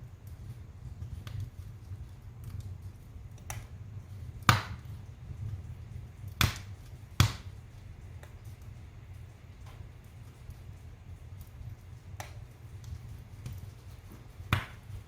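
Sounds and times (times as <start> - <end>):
fire popping loudly: 0.0 - 15.0
fire rumbling and crackling: 0.0 - 15.0.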